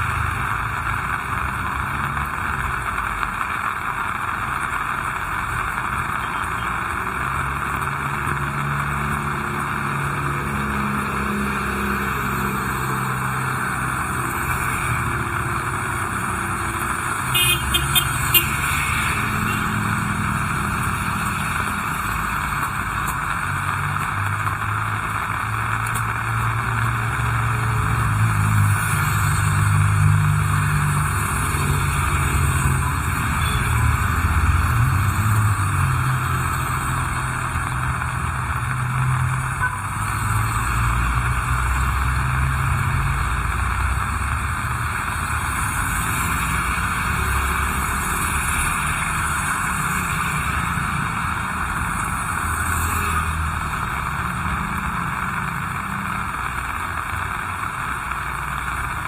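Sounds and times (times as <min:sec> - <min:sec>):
heavy rain hissing: 0:00.0 - 0:59.0
vehicle engine rumble: 0:00.0 - 0:59.0.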